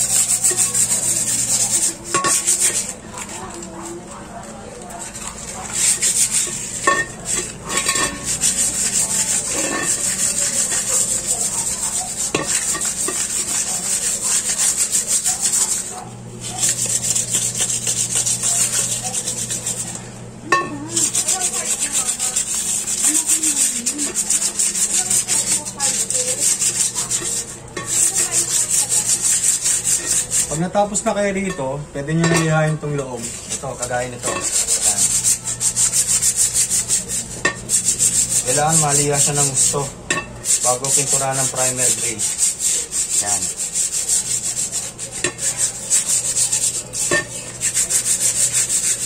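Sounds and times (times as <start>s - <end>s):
sandpaper rasping on metal: 0.0s - 4.2s, 4.8s - 20.0s, 20.9s - 31.2s, 32.3s - 49.0s.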